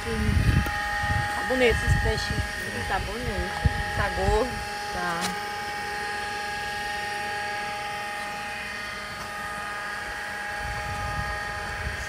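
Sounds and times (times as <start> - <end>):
low motor rumble: 0.0 - 12.0
motor whining: 0.0 - 12.0.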